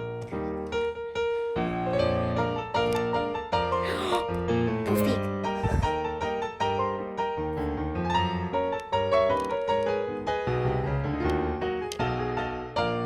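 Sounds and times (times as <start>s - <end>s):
piano melody with chords: 0.0s - 13.0s.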